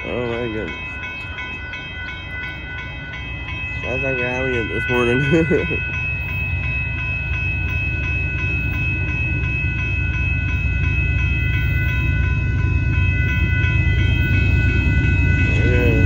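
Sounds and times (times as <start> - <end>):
railroad crossing bell ringing: 0.0 - 16.0
train rumble: 0.0 - 16.0.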